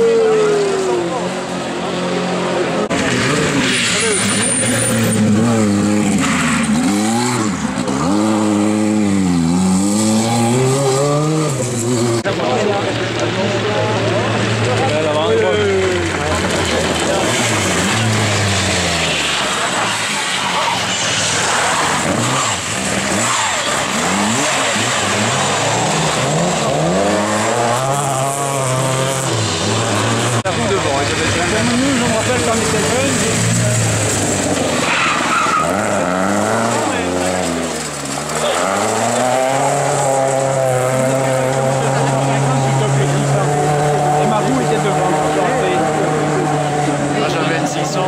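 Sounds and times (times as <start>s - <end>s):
rally car engine revving: 0.0s - 48.0s.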